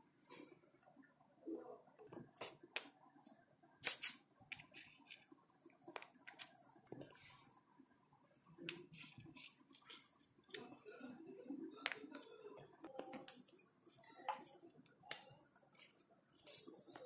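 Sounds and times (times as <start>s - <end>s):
soft rubbing of clay: 2.2s - 17.0s.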